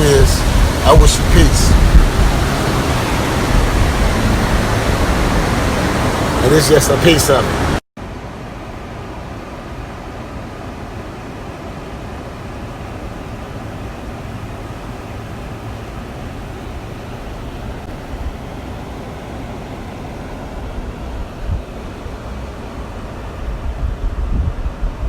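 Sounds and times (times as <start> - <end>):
wind gusts on microphone: 0.0 - 7.8, 8.7 - 25.0.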